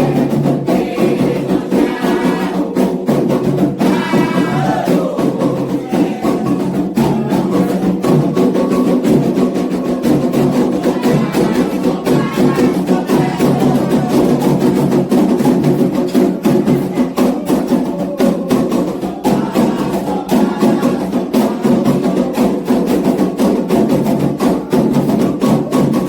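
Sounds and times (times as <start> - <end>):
group singing: 0.0 - 26.0
hand drums: 0.0 - 26.0.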